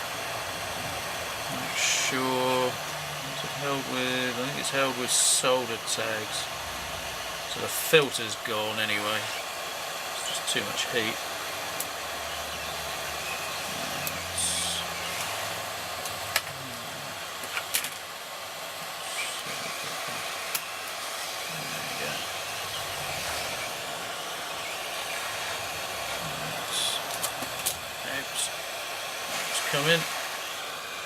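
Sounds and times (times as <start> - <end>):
hot air gun blowing: 0.0 - 31.0.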